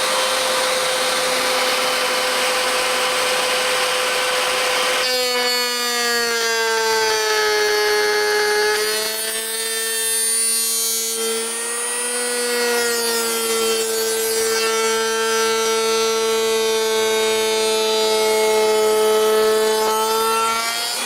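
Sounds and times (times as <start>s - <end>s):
router whining: 0.0s - 21.0s.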